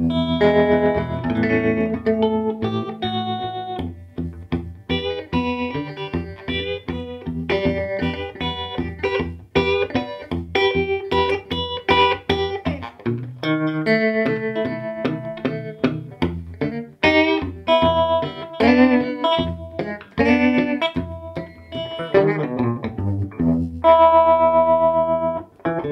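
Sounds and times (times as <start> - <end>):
electric guitar with tremolo: 0.0 - 25.9.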